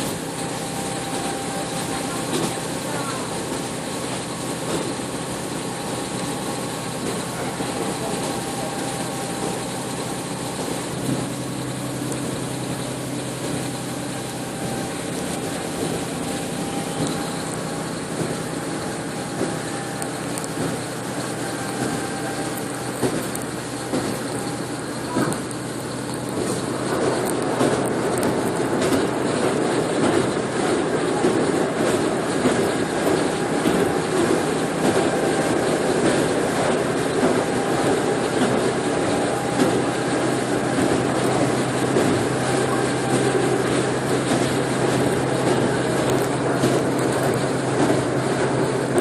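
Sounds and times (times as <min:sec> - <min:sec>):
vehicle interior hum: 0:07.0 - 0:49.0.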